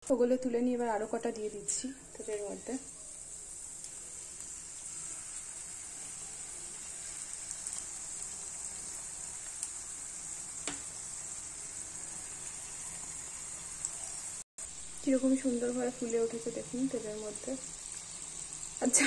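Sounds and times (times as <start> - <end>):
pastries deep-frying in oil: 0.1 - 19.0.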